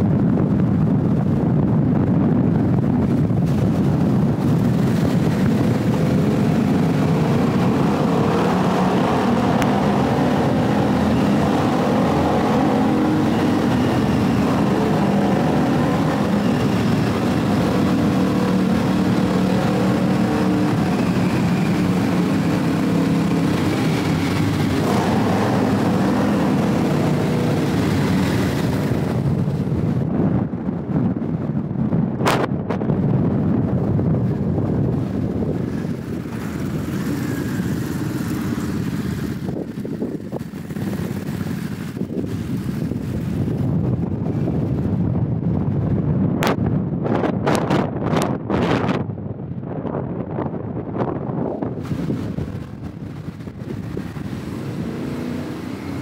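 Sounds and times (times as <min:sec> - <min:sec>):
road noise: 0:00.0 - 0:56.0
vehicle engine hum in tunnel: 0:00.0 - 0:56.0
wind on microphone: 0:00.0 - 0:56.0.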